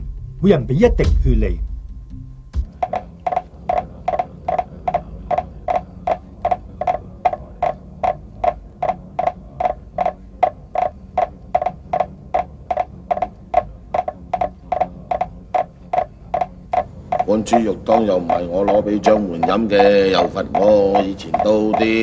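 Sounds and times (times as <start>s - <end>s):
faint low hum: 0.0s - 22.0s
wooden fish knocks: 2.6s - 22.0s.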